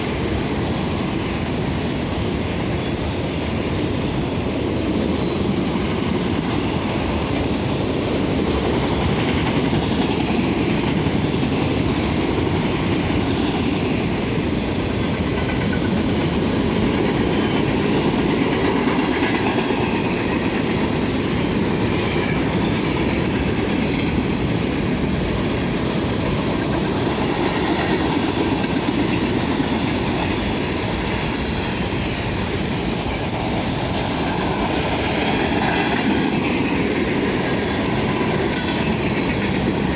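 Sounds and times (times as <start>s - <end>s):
freight train wheels rolling on track: 0.0s - 39.9s.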